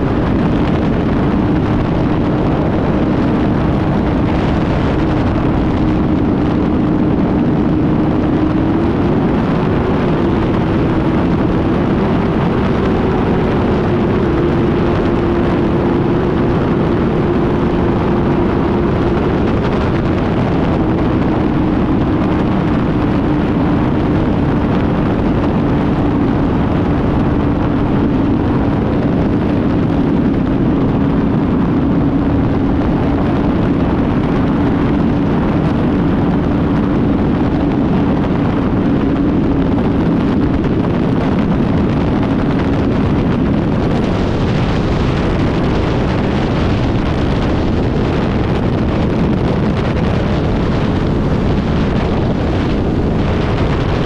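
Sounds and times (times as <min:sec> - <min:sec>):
motorcycle engine cruising: 0:00.0 - 0:54.0
wind rushing on microphone: 0:00.0 - 0:54.0.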